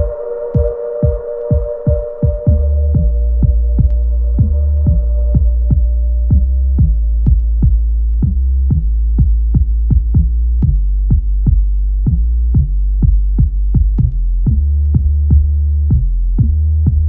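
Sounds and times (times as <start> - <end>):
electronic music with drum machine: 0.0 - 17.0.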